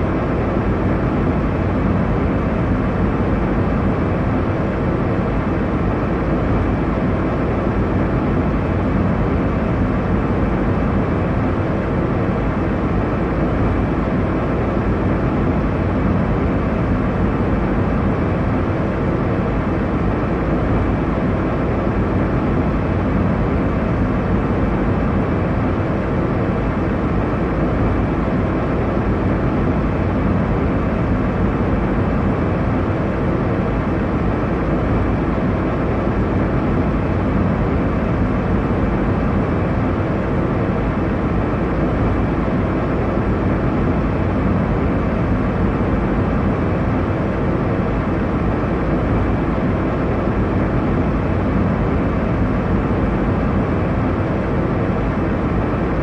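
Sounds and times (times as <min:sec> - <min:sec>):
airliner cabin engine rush: 0:00.0 - 0:56.0
faint steady hum: 0:00.0 - 0:56.0.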